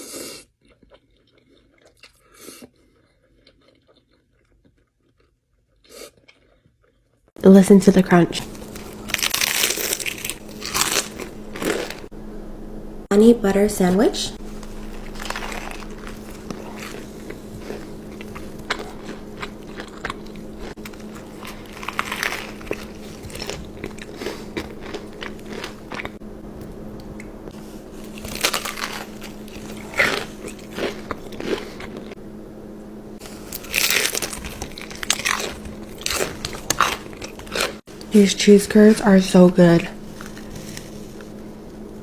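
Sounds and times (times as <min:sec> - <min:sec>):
chewing crunchy food: 0:00.0 - 0:07.2, 0:08.4 - 0:12.1, 0:14.4 - 0:32.2, 0:33.2 - 0:42.0
steady low hum: 0:07.4 - 0:42.0.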